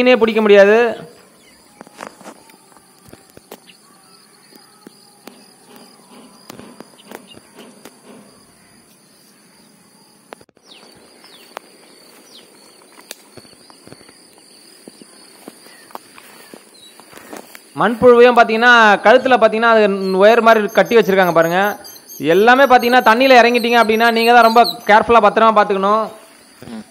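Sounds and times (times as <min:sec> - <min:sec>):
faint bird chirps: 0:01.1 - 0:18.2, 0:19.8 - 0:25.2
pulsing insect trill: 0:01.4 - 0:26.9.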